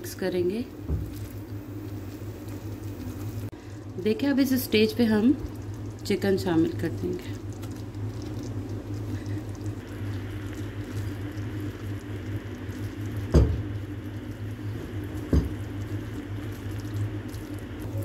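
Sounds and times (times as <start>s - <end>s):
steady low hum: 0.0s - 18.0s
batter bubbling and squishing: 0.2s - 18.0s.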